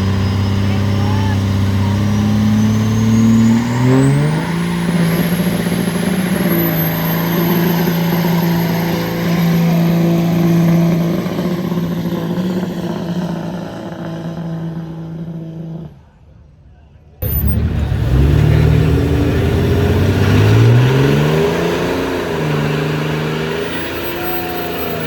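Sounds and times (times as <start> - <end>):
high turbo whine: 0.0 - 15.8, 17.2 - 25.0
diesel engine revving: 0.0 - 16.0, 17.2 - 25.0.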